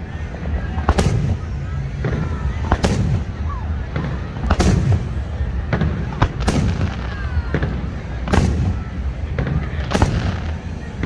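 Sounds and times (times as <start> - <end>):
fireworks booming: 0.0 - 11.0
fireworks popping: 0.0 - 11.0
low rumble: 0.0 - 11.0.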